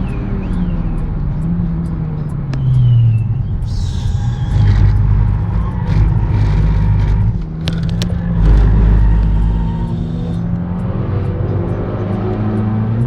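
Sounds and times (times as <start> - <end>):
car engine running hard: 0.0 - 13.0
sharp clicks: 0.0 - 13.0.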